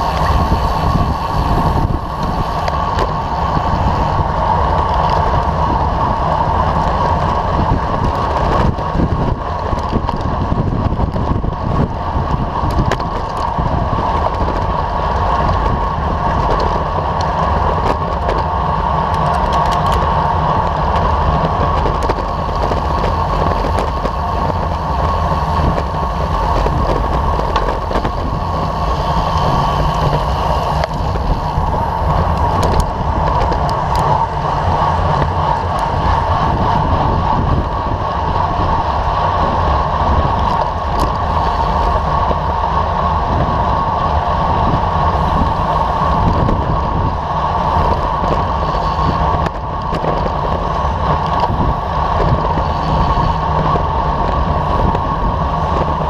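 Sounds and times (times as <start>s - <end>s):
road and tyre noise: 0.0s - 56.0s
wind rush over microphone: 0.0s - 56.0s.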